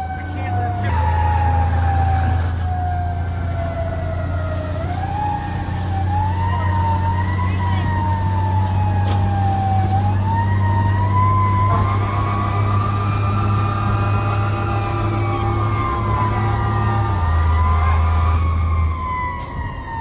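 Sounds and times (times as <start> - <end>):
fire truck siren wailing: 0.0 - 20.0
truck engine rumble: 0.0 - 20.0.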